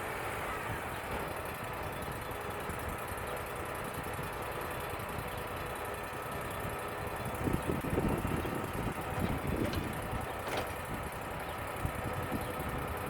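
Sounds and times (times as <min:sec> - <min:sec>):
band sawmill running: 0:00.0 - 0:13.0.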